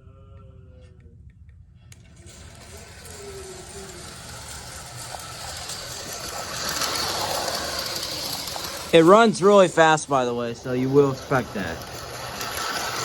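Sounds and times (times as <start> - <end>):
toy train motor whirring: 1.9 - 13.0
toy train wheels rattling on rails: 1.9 - 13.0.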